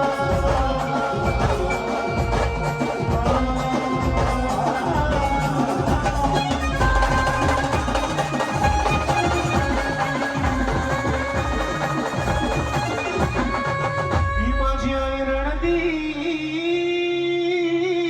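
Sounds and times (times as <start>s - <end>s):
steady drum beat: 0.0s - 16.5s.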